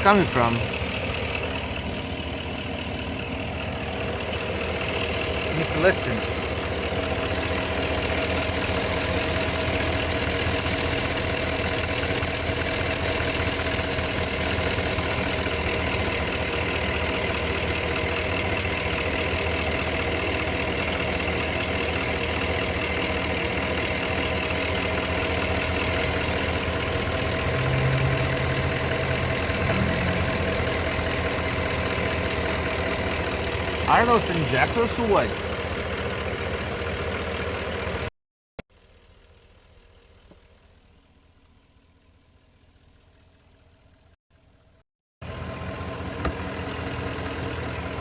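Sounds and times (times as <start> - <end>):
car engine idling: 0.0 - 38.1, 38.8 - 48.0
light engine ticking: 0.0 - 38.1, 38.7 - 44.1, 45.2 - 48.0.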